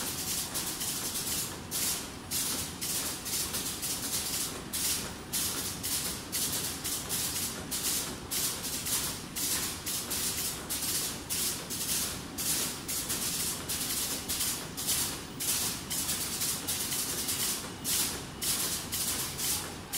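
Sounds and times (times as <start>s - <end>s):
bag-making machine hissing rhythmically: 0.0s - 19.9s.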